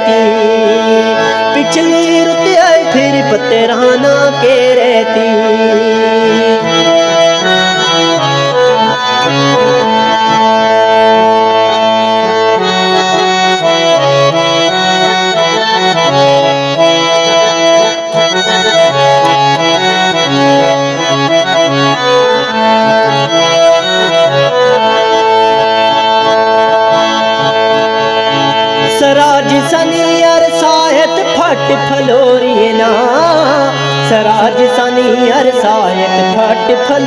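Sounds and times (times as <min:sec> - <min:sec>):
free-reed instrument melody: 0:00.0 - 0:37.0.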